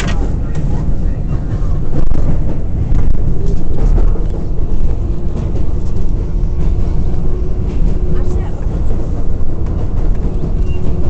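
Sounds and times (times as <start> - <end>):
subway train wheels rumbling: 0.0 - 11.0.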